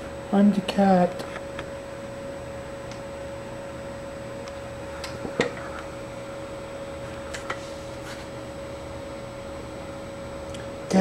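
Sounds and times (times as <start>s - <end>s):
constant electrical hum: 0.0s - 11.0s.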